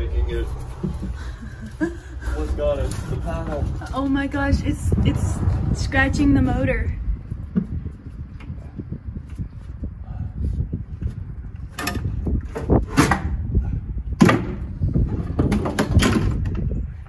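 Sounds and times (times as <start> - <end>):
steady low rumble: 0.0 - 15.4.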